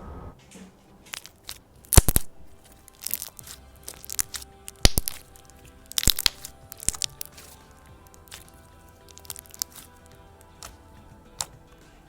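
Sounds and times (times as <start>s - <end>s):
slime beads crackling and popping: 1.1s - 10.8s.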